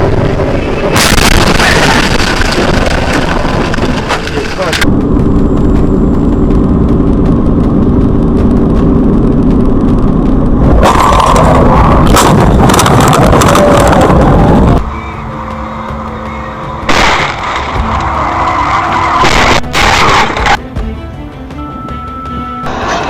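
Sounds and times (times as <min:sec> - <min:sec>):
car engine and road noise: 0:00.0 - 0:23.0
low hum: 0:00.0 - 0:23.0.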